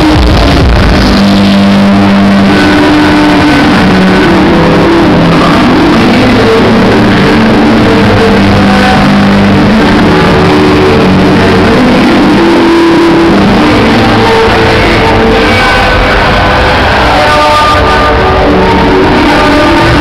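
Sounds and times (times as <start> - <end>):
electronic dance music: 0.0 - 20.0.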